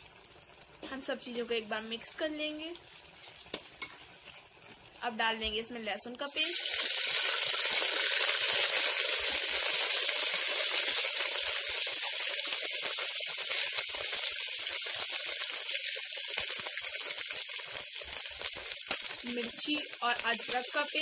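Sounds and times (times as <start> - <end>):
garlic paste sizzling in oil: 0.0 - 21.0.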